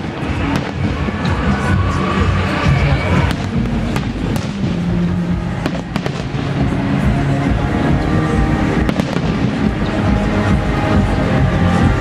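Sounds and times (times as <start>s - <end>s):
fireworks bangs and crackles: 0.0s - 12.0s
music with held low notes: 0.0s - 12.0s.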